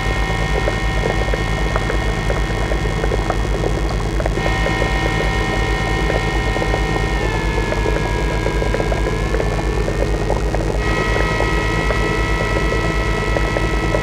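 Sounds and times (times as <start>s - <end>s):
pulsing low electronic rumble: 0.0s - 14.0s
steady high electronic tones: 0.0s - 14.0s.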